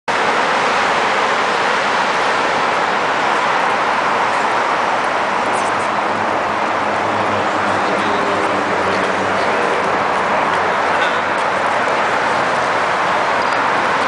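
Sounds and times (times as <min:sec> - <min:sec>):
traffic noise: 0:00.1 - 0:14.0.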